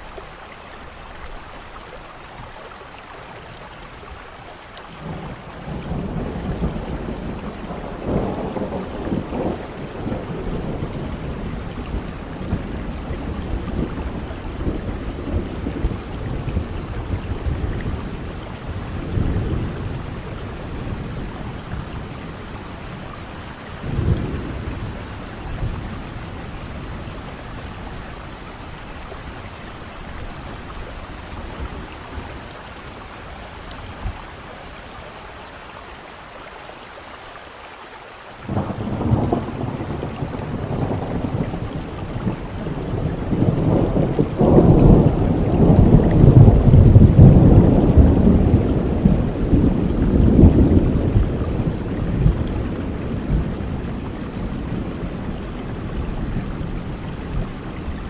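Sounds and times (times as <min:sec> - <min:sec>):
rain falling: 0:00.0 - 0:58.0
thunder rumbling: 0:05.0 - 0:34.5, 0:38.4 - 0:58.0.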